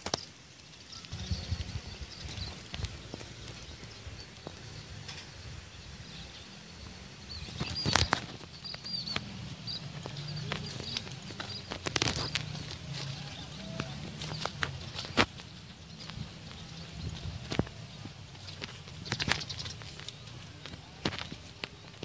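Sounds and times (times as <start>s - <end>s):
rural outdoor ambience: 0.0s - 22.0s
high bird chirps: 0.1s - 21.9s.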